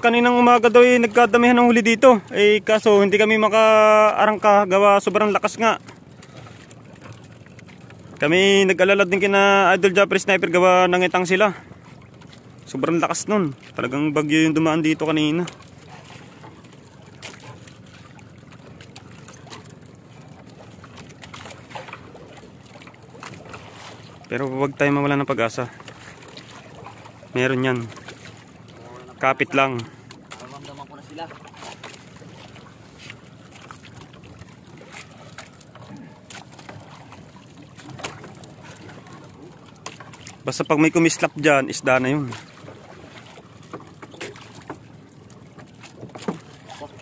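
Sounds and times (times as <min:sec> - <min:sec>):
water trickling and lapping: 0:00.0 - 0:47.0.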